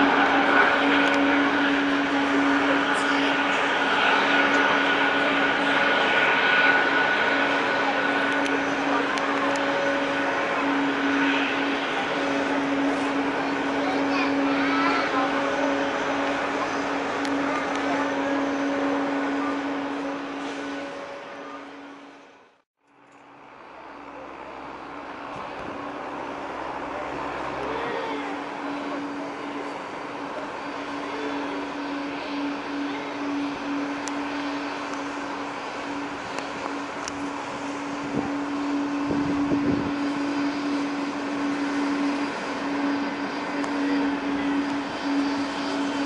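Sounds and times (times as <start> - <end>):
jet airliner taxiing: 0.0 - 46.0.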